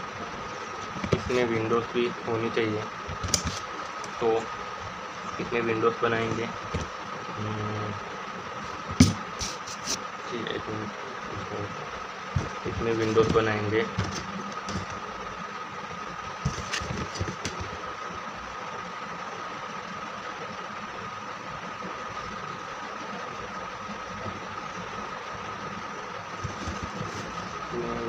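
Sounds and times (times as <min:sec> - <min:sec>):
background hum and hiss: 0:00.0 - 0:28.0.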